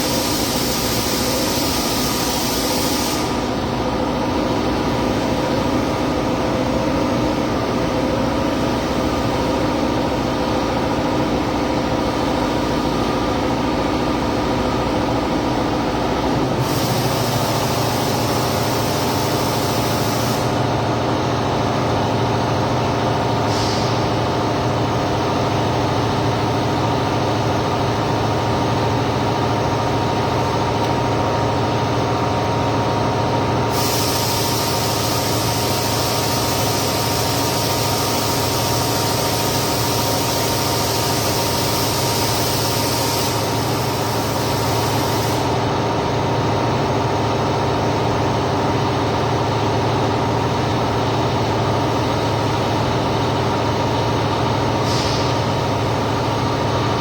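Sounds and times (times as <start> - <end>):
loud machine hum: 0.0 - 57.0.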